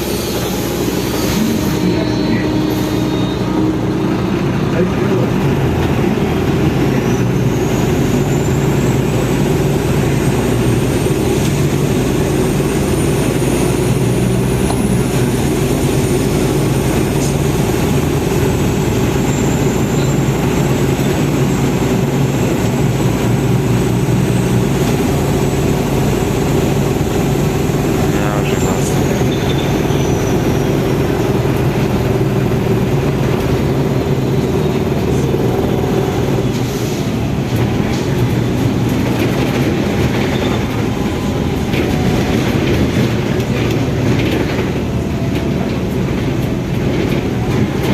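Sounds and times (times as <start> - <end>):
trolleybus rumble and hum: 0.0 - 47.9.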